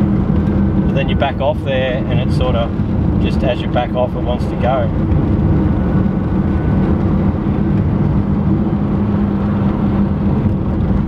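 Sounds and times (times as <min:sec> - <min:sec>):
car engine running: 0:00.0 - 0:11.0
road rumble: 0:00.0 - 0:11.0.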